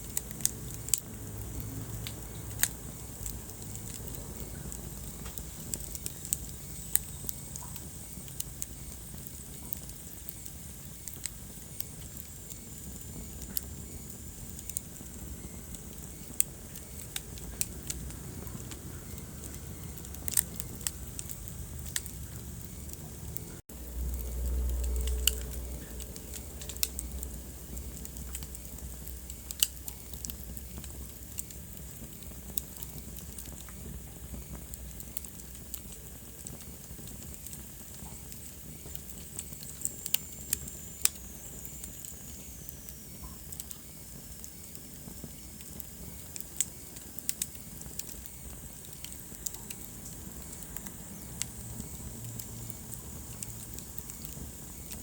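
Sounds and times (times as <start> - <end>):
fire crackles and pops: 0.0 - 55.0
wood fire hissing: 0.0 - 55.0.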